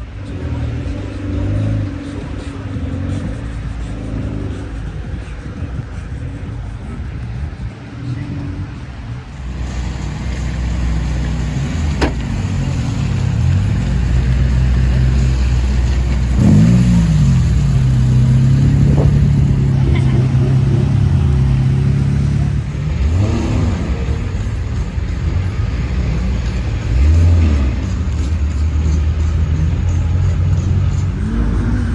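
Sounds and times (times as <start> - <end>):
car engines idling and revving: 0.0 - 31.9.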